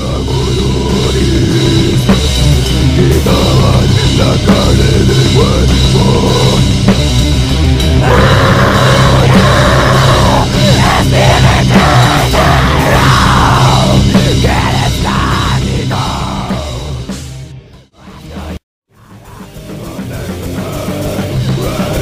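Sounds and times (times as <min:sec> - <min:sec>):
heavy rock music with drums: 0:00.0 - 0:22.0.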